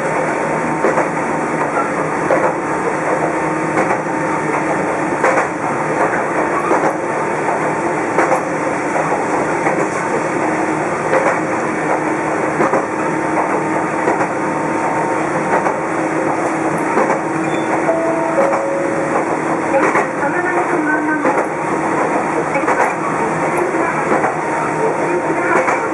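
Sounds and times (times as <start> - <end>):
electric train running: 0.0 - 25.9.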